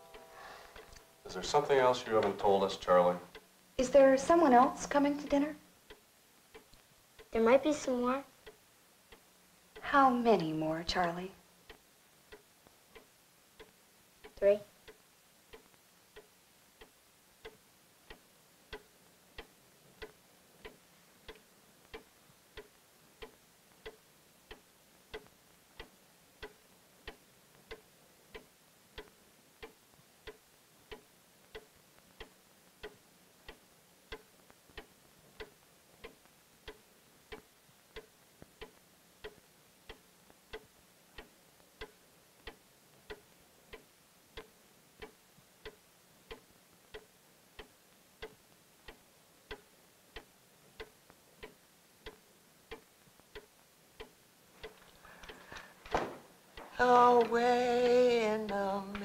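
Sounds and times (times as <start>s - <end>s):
clock ticking faintly: 0.0s - 59.0s.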